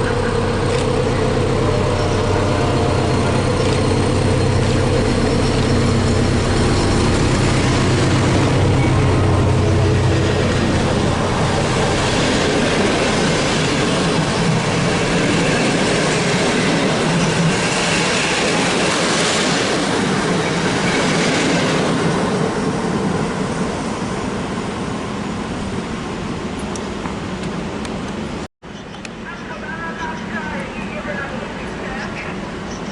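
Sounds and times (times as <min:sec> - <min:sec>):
diesel locomotive engine: 0:00.0 - 0:32.9
train wheels rolling on track: 0:00.0 - 0:32.9.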